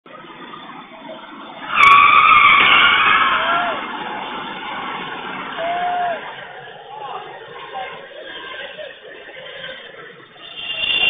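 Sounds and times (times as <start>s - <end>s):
tyres screeching in a skid: 0.2s - 11.0s.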